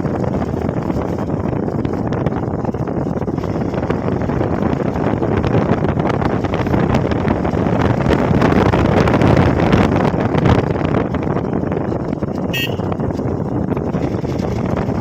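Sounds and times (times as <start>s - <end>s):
motorcycle road and engine noise: 0.0s - 15.0s
wind rushing over microphone: 0.0s - 15.0s.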